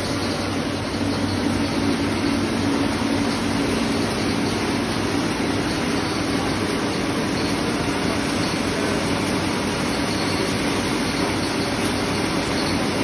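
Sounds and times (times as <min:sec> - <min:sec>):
grinding machine whirring: 0:00.0 - 0:13.0.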